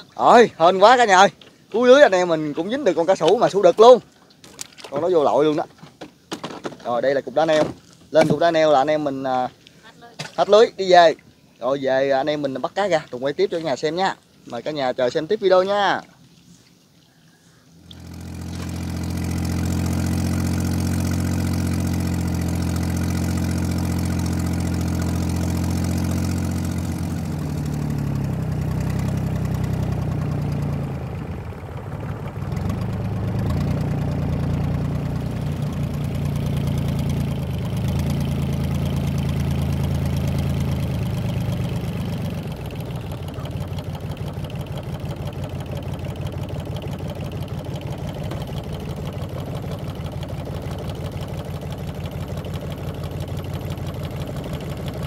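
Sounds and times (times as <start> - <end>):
boat engine running: 0.0 - 16.2, 17.6 - 55.0.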